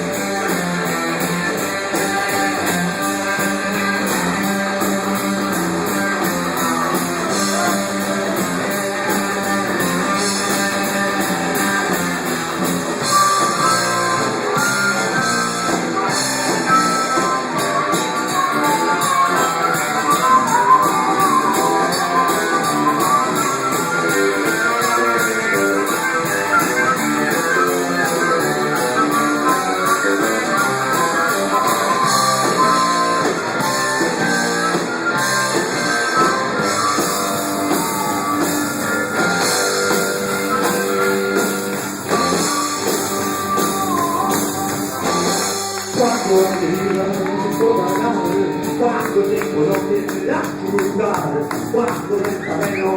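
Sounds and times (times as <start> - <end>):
electric guitar: 0.0 - 52.9
live rock band playing: 0.0 - 52.9.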